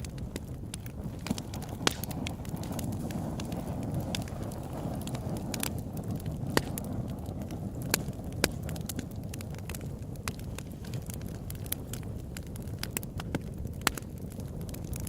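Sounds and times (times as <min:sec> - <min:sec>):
campfire pops and snaps: 0:00.0 - 0:15.0
low rush of flames: 0:00.0 - 0:15.0.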